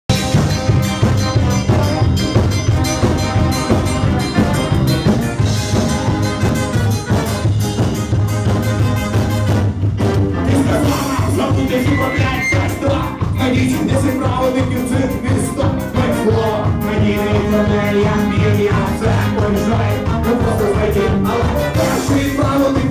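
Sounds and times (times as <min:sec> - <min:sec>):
heavy bass line: 0:00.1 - 0:22.9
live band playing: 0:00.1 - 0:22.9
steady drum beat: 0:00.1 - 0:22.9.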